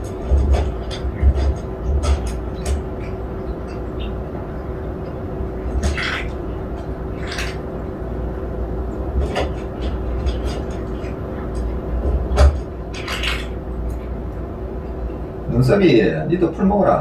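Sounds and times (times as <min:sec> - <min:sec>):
cats chewing grass crunching: 0:00.0 - 0:14.5
steady low hum: 0:00.0 - 0:17.0.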